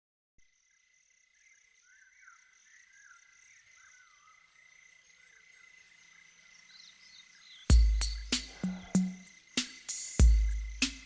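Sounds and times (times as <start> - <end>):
pulsing high insect trill: 0.5 - 11.0.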